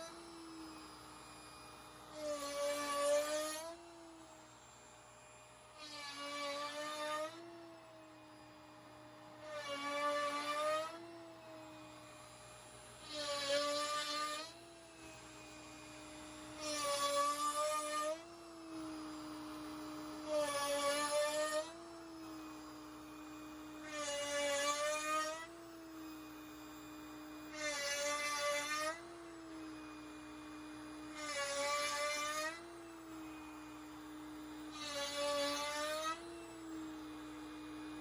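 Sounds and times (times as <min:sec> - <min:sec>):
cnc router spindle whine: 0:00.0 - 0:38.0
router bit cutting wood: 0:00.0 - 0:38.0.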